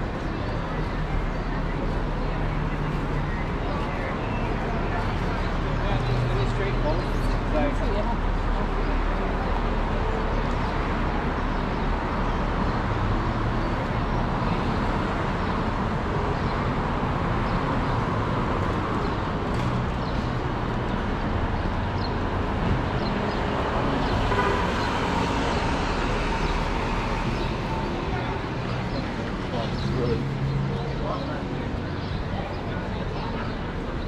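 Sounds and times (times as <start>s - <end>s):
road traffic noise: 0.0s - 34.0s.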